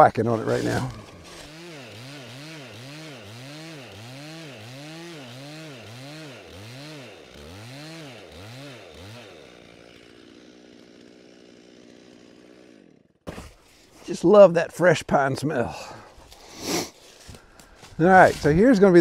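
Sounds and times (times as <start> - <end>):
chainsaw cutting log: 0.0 - 14.1, 16.1 - 19.0.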